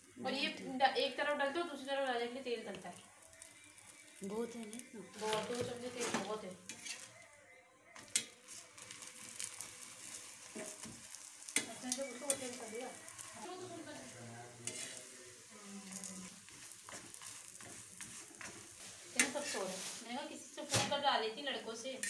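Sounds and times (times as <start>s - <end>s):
flatbread sizzling on a griddle: 0.0s - 22.0s.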